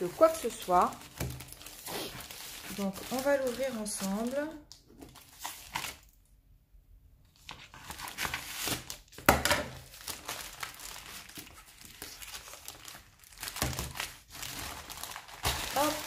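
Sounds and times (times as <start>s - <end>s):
plastic bag tearing and crinkling: 0.0s - 6.2s, 7.7s - 16.0s.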